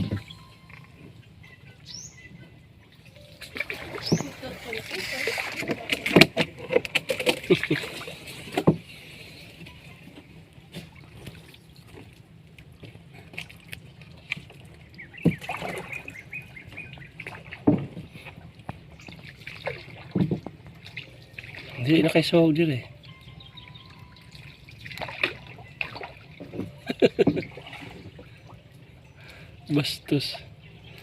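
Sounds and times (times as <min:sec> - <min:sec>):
water splashing and sloshing: 0:00.0 - 0:31.0.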